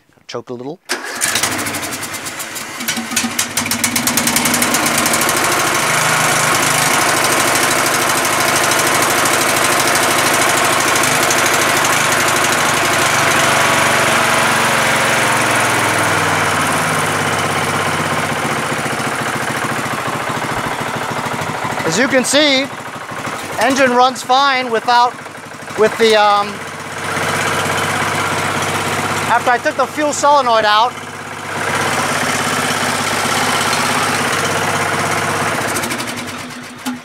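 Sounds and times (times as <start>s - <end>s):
lawn tractor engine starting: 0.9s - 37.0s.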